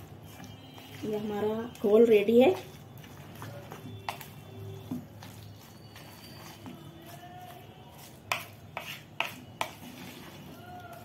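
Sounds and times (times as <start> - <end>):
spoon stirring wet batter: 0.0 - 11.0.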